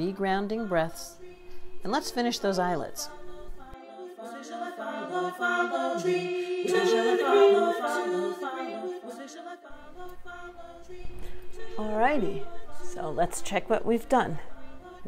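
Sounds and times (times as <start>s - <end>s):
a cappella voices in harmony: 0.0s - 15.0s.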